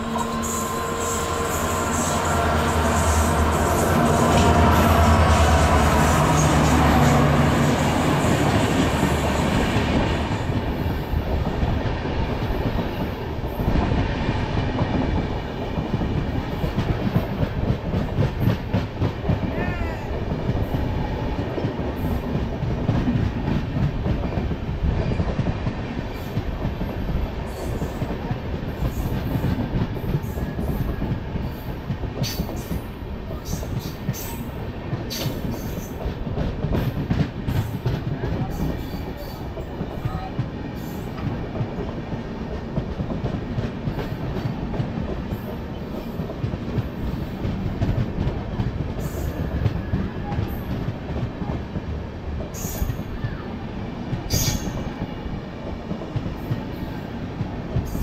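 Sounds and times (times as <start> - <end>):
train coaches rumbling past: 0.0 - 58.0.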